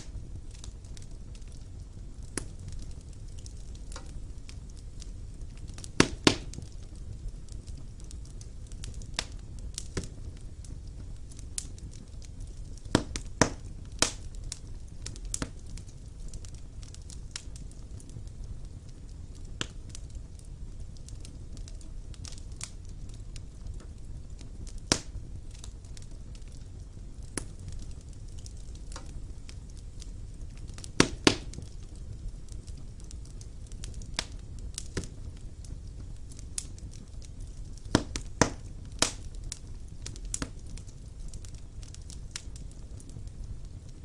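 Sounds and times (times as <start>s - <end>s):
fire crackling and popping: 0.0s - 44.0s
low rumble of flames: 0.0s - 44.0s.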